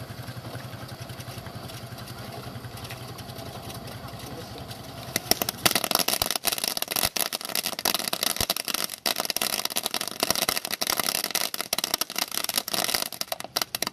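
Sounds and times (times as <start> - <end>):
firework fountain hissing: 0.0 - 13.9
rapid crackling pops: 0.1 - 13.9.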